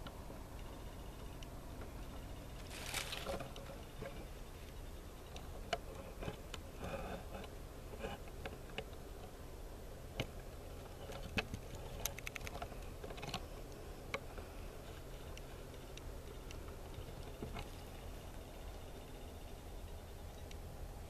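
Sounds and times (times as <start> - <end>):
small clicks and ticks: 0.0 - 9.4, 10.1 - 20.7
low steady rumble: 0.0 - 21.0.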